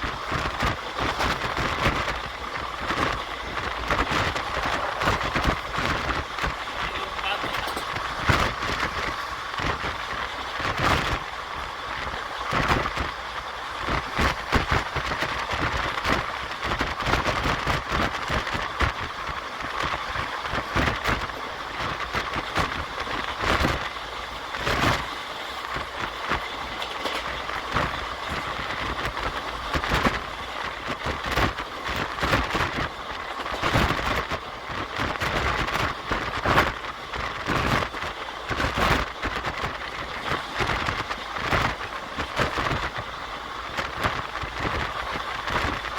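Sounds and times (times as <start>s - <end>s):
train rushing rumble: 0.0s - 45.9s
wheels clicking over track: 0.0s - 45.9s.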